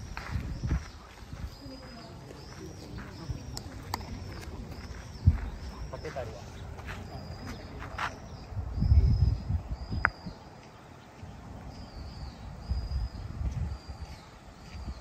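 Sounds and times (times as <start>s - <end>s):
wind rumble on microphone: 0.0s - 6.0s, 6.8s - 15.0s.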